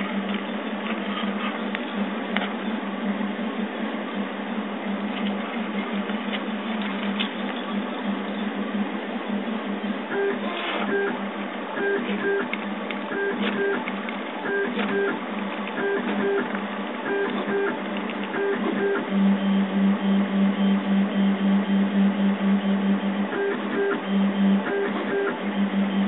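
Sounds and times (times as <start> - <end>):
printer motors and fan humming: 0.0 - 26.0.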